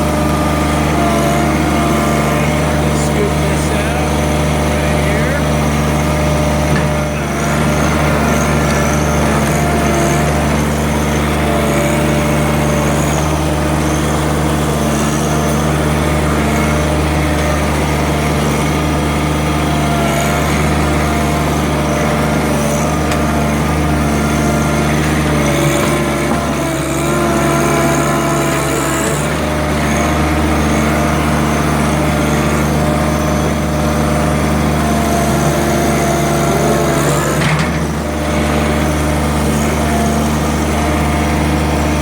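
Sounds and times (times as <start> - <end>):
small diesel tractor engine running: 0.0 - 42.0.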